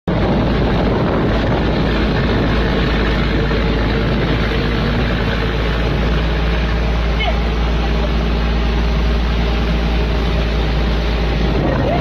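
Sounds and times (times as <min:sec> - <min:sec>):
heavy surf breaking: 0:00.1 - 0:12.0
wind buffeting microphone: 0:00.1 - 0:12.0.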